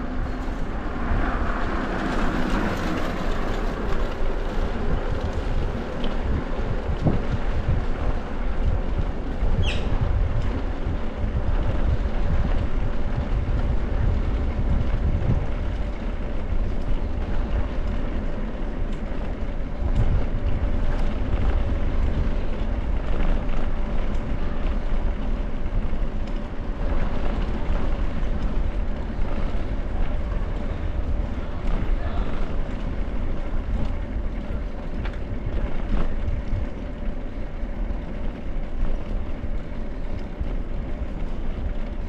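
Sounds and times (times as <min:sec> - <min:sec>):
bicycle tyres rumbling on bricks: 0:00.0 - 0:42.0
wind buffeting microphone: 0:00.0 - 0:42.0.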